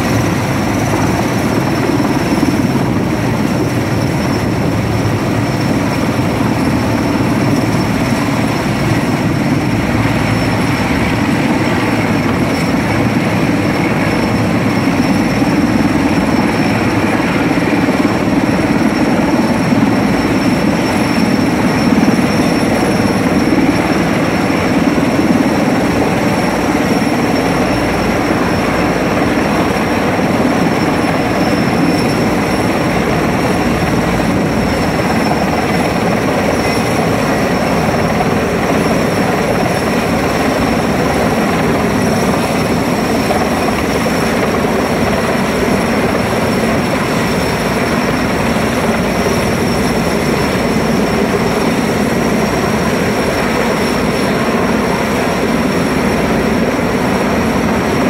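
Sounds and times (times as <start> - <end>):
helicopter rotor and turbine rumble: 0.0 - 58.0
high turbine whine: 0.0 - 58.0.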